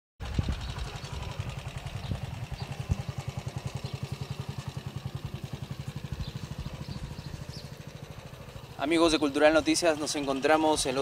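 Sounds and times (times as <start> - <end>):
motorcycle engine idling: 0.2 - 11.0.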